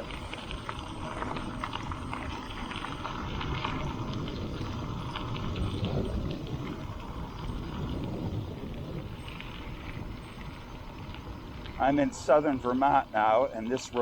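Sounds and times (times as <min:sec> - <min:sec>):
bike tyres rolling on gravel: 0:00.0 - 0:14.0.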